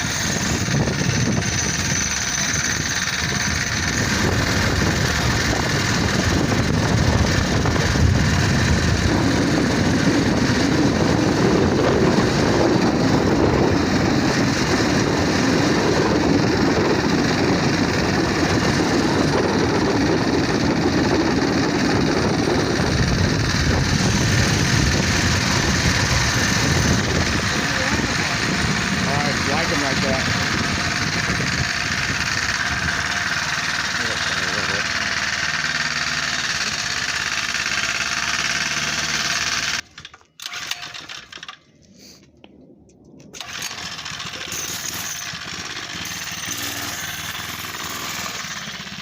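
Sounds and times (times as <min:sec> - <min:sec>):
small motorbike engine running: 0:00.0 - 0:41.7, 0:43.3 - 0:49.0.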